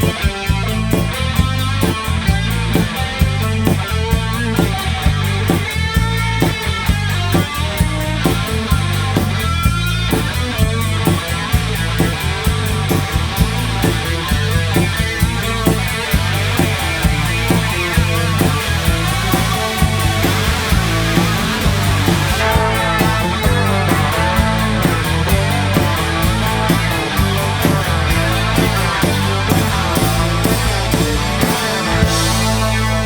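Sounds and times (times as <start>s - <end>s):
bass: 0.0s - 33.0s
electric guitar: 0.0s - 33.0s
steady drum beat: 0.0s - 33.0s.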